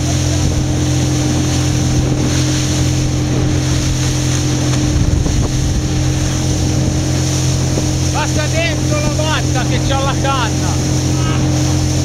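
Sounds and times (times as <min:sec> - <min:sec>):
motorboat engine hum: 0:00.0 - 0:12.0
water churning: 0:00.0 - 0:12.0.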